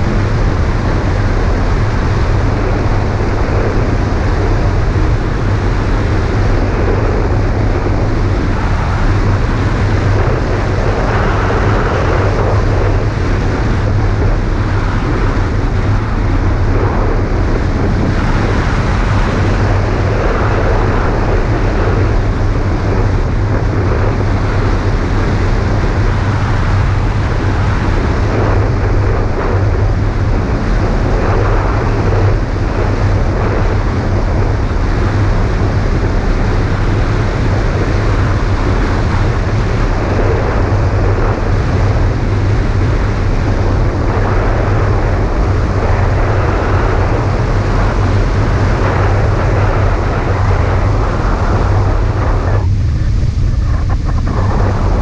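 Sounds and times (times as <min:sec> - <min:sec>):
aircraft engine deep rumble: 0:00.0 - 0:55.0
broad wind rush: 0:00.0 - 0:55.0.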